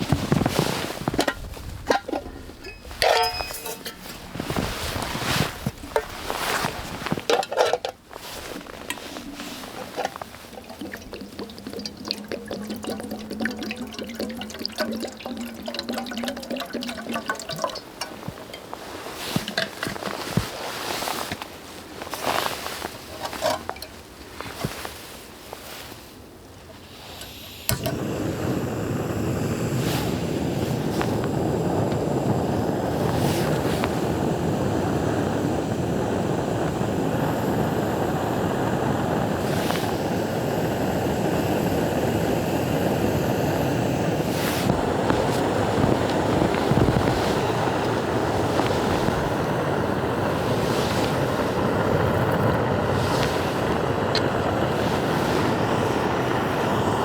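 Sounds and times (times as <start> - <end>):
camp stove burner hissing: 0.0 - 57.0.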